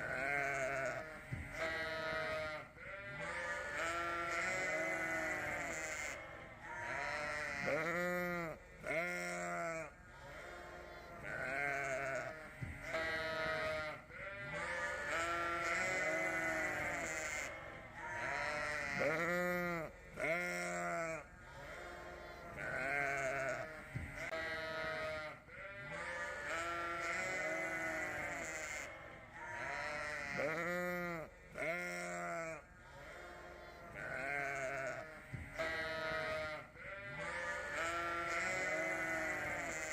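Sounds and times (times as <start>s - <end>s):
lambs bleating: 0.0s - 39.9s.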